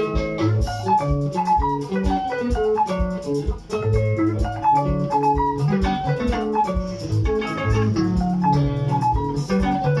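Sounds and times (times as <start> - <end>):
bass line: 0.0 - 10.0
plucked guitar melody: 0.0 - 10.0
steady drum beat: 0.0 - 10.0.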